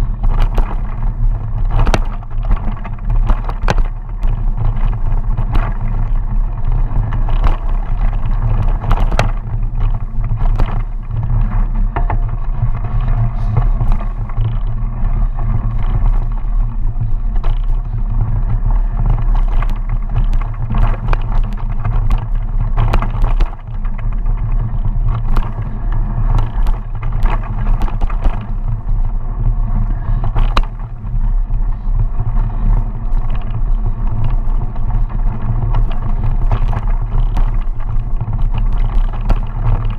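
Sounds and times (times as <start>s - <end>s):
bike rattling over bumps: 0.0s - 39.9s
rumble of tyres and wind: 0.0s - 39.9s.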